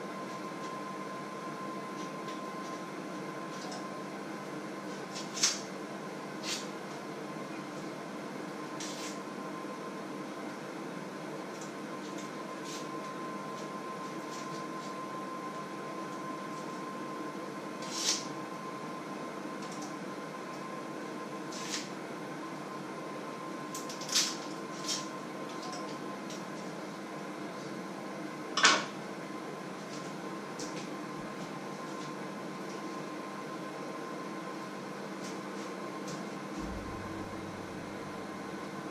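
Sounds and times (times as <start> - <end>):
electrical hum with high whine: 0.0 - 38.9.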